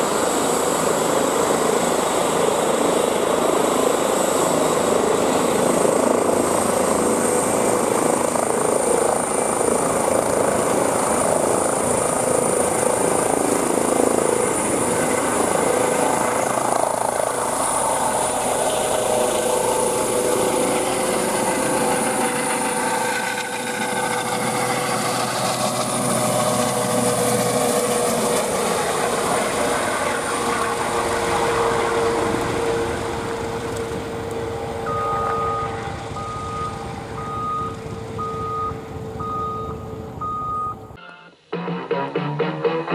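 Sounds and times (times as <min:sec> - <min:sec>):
helicopter taking off: 0:00.0 - 0:42.9.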